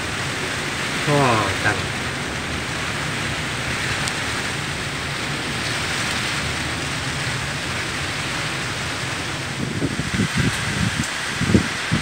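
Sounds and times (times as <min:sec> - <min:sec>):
low rumble: 0:00.0 - 0:11.6
steady rain hiss: 0:00.0 - 0:12.0.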